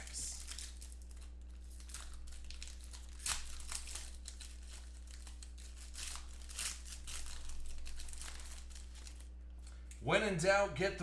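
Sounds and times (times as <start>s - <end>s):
wrapper tearing and crinkling: 0.0s - 9.9s.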